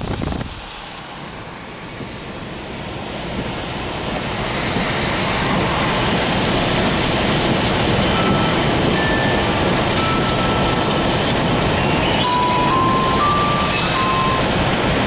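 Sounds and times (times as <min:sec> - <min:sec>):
wind noise: 0:00.0 - 0:01.0, 0:01.8 - 0:15.0
tyres hissing on wet road: 0:00.0 - 0:15.0.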